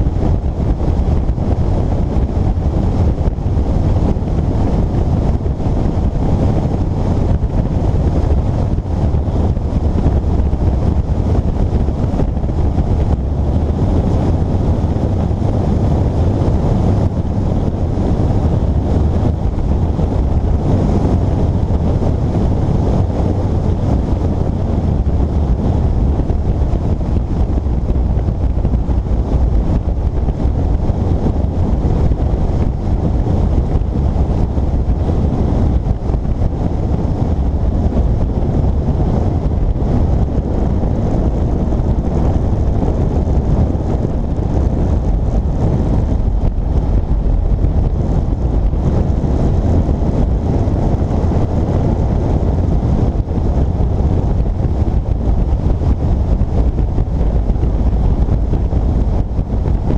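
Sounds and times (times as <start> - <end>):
motorcycle running: 0.0 - 59.9
road noise: 0.0 - 59.9
wind rumbling on microphone: 0.0 - 59.9.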